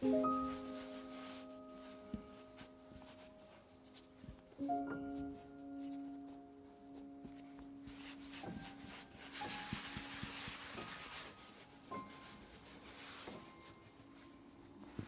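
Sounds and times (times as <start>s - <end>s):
palms rubbing dough: 0.0s - 15.0s.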